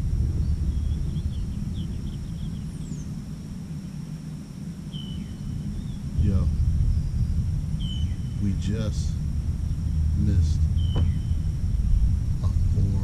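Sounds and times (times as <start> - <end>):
faint bird chirps: 0.0 - 13.0
high insect whine: 0.0 - 13.0
wind rumble on microphone: 0.0 - 13.0.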